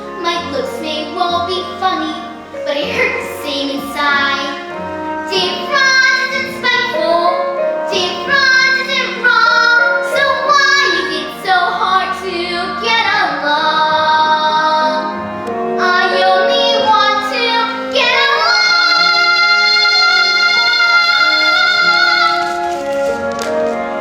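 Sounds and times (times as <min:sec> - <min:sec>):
recorded backing music: 0:00.0 - 0:24.0
child singing a ballad: 0:00.2 - 0:15.2, 0:15.8 - 0:22.7.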